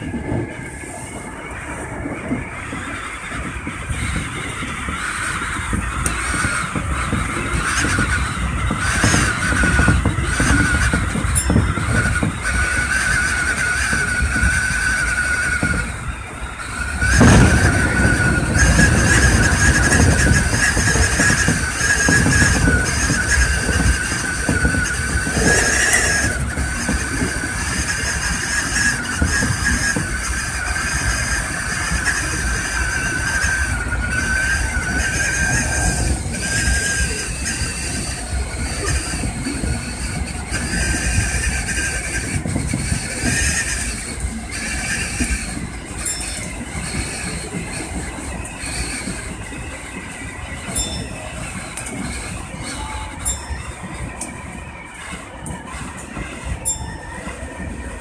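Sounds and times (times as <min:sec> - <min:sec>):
train wheels rumbling on rail: 0:00.0 - 0:58.0
wavering high-pitched whine: 0:00.0 - 0:58.0.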